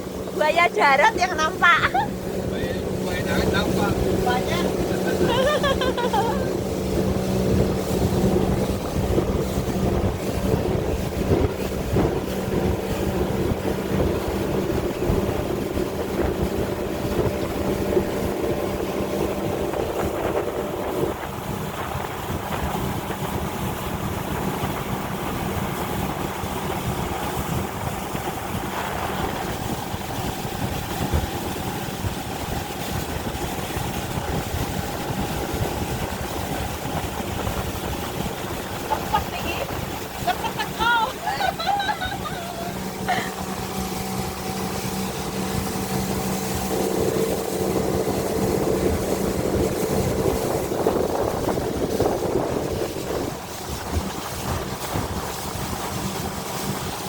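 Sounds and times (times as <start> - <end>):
motorboat engine running: 0.0 - 57.0
water rushing against hull: 0.0 - 57.0
wind on microphone: 0.0 - 57.0.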